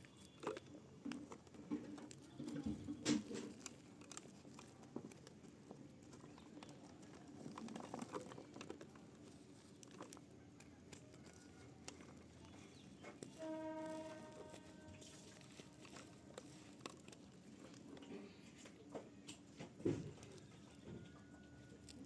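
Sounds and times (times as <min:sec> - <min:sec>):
dry mud crackling and crunching: 0:00.0 - 0:22.0.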